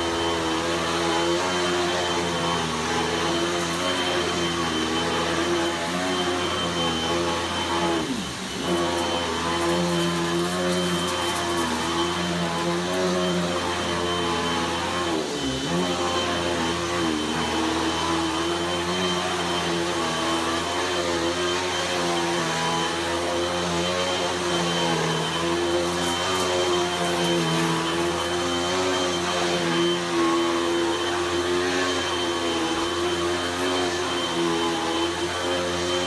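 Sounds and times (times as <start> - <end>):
vacuum cleaner on carpet: 0.0 - 36.0.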